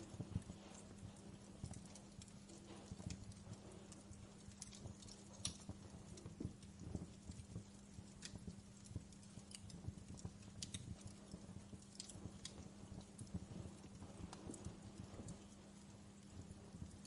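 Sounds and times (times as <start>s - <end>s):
faint steady hum: 0.0s - 17.0s
wood fire crackling: 0.0s - 17.0s.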